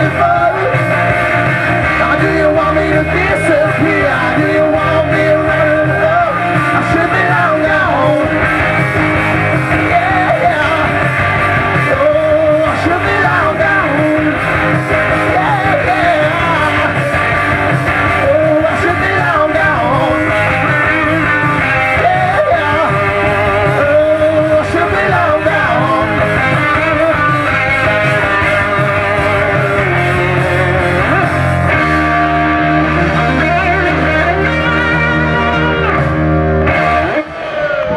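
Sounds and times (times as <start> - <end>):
live rock band playing: 0.0 - 37.9
wavering lead guitar line: 0.0 - 37.9.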